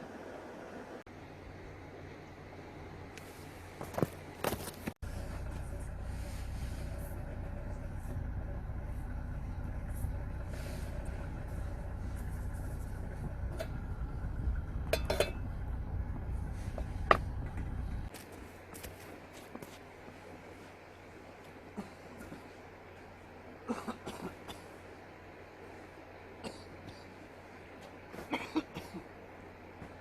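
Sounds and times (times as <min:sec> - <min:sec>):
low vehicle engine rumble: 0:00.0 - 0:30.0.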